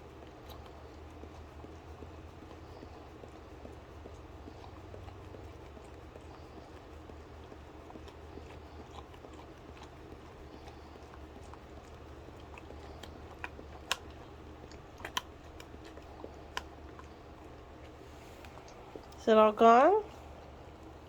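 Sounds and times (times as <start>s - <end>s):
dog licking and eating: 0.0s - 21.0s
low steady hum: 0.0s - 21.0s.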